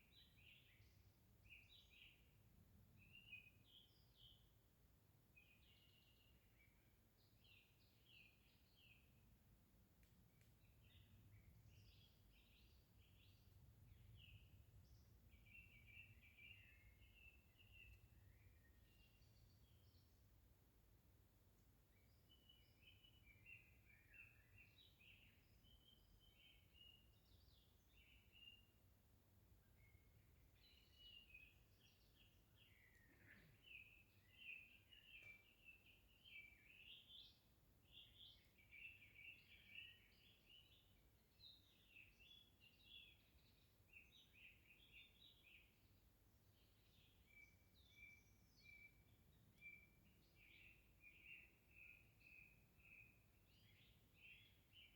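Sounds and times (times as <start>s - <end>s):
songbird chirping: 0.0s - 4.6s, 5.2s - 54.9s.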